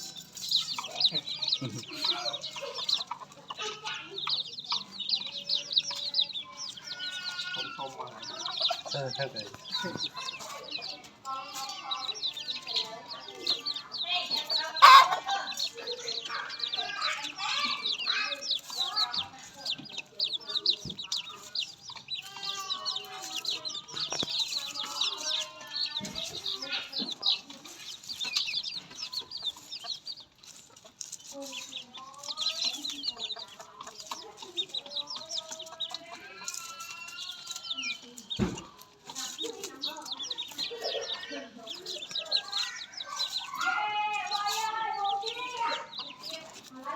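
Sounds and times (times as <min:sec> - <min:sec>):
poultry chirping: 0:00.0 - 0:46.9.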